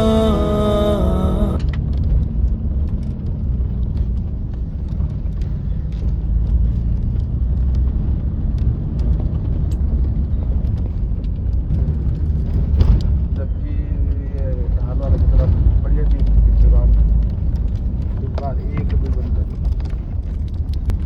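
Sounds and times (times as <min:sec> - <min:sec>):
car road and engine rumble: 0:00.0 - 0:21.0
small clicks and rattles: 0:01.6 - 0:21.0.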